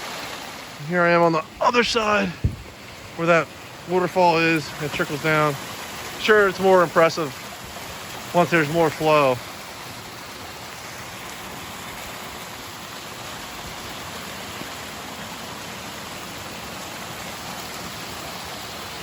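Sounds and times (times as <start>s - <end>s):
water trickling over rocks: 0.0s - 19.0s.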